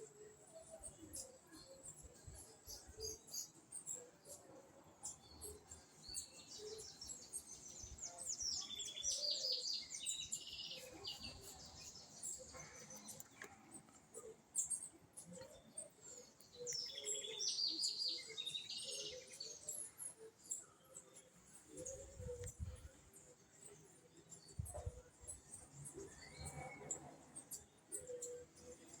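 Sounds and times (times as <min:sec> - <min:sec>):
birds chirping and singing: 0:00.0 - 0:29.0.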